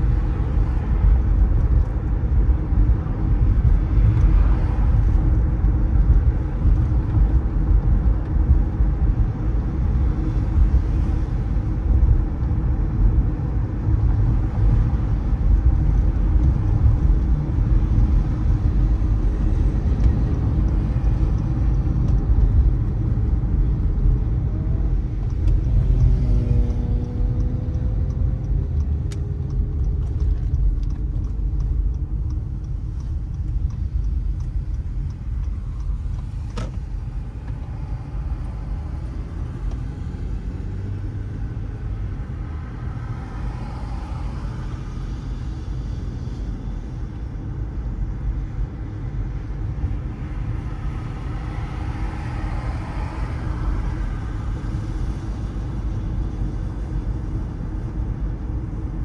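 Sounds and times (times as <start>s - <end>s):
car engine and road noise: 0.0s - 59.0s
traffic noise: 0.0s - 59.0s.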